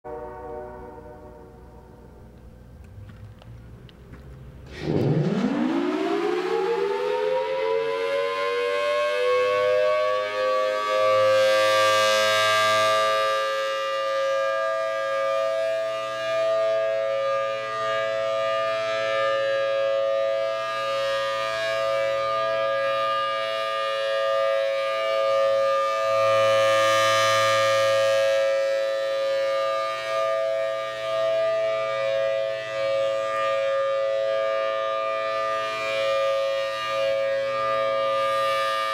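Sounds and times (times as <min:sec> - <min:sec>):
two-tone warning siren: 0:00.0 - 0:02.7, 0:04.6 - 0:38.9.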